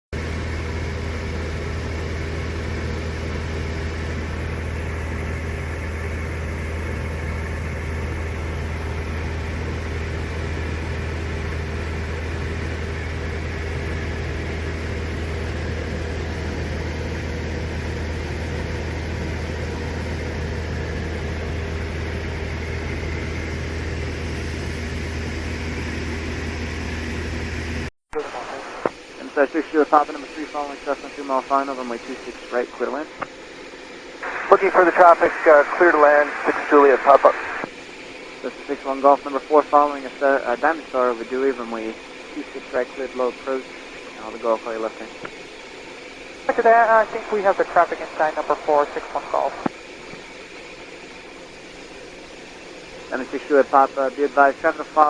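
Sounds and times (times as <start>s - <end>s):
propeller plane engine droning: 0.2s - 27.9s, 28.6s - 55.0s.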